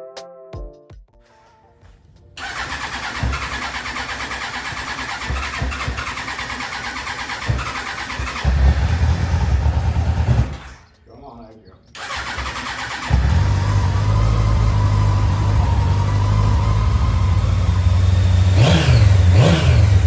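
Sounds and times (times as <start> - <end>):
motorcycle engine cranking on starter: 2.4 - 11.0, 12.0 - 20.0.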